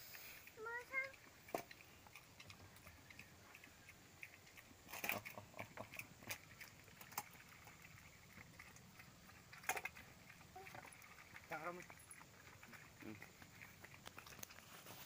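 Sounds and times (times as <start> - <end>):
pig crunching feed: 0.0 - 15.0.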